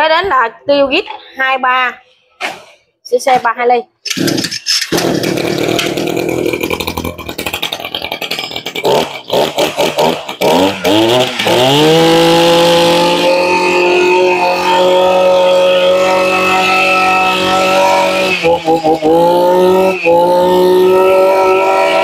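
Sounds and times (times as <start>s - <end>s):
brush cutter engine revving: 4.1s - 22.0s.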